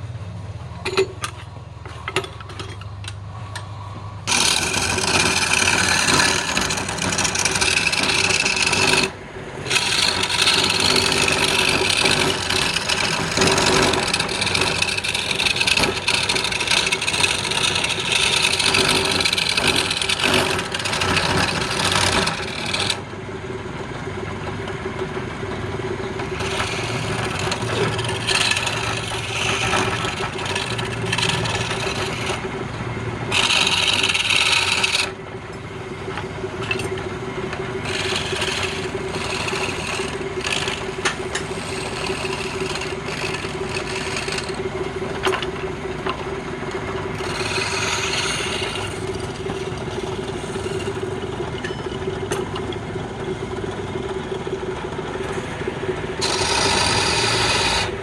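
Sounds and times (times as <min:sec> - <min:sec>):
tool scraping spinning wood: 0:03.7 - 0:23.2, 0:24.1 - 0:52.7, 0:53.3 - 0:58.0
lathe motor hum: 0:04.2 - 0:58.0.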